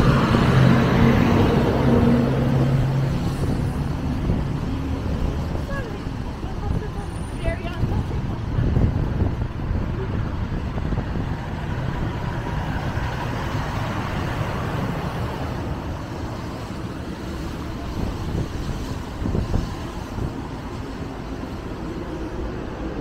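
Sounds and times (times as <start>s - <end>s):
vehicle passing: 0.0s - 20.2s
street traffic rumble: 0.0s - 23.0s.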